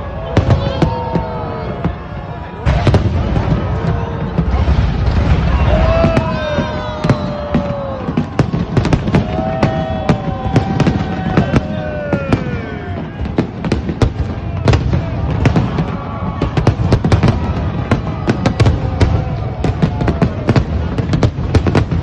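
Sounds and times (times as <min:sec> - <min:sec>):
firework bangs and crackles: 0:00.0 - 0:22.0.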